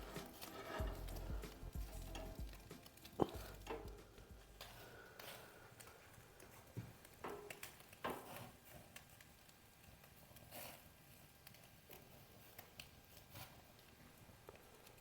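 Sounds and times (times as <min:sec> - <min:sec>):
charcoal embers crackling and popping: 0:00.0 - 0:15.0.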